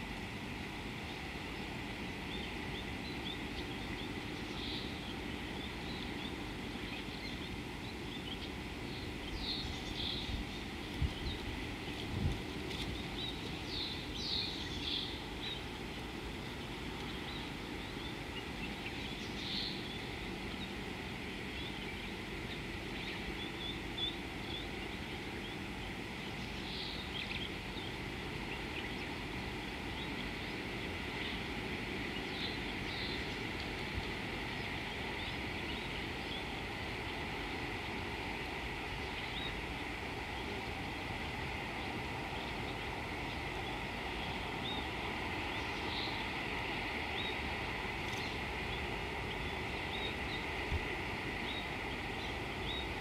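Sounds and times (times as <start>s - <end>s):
low rumble and hiss: 0.0s - 53.0s.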